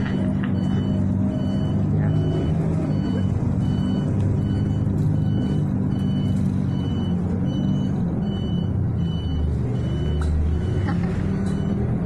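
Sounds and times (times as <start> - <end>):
bus engine running: 0.0 - 12.0
electronic warning beep: 0.1 - 10.8, 11.5 - 12.0.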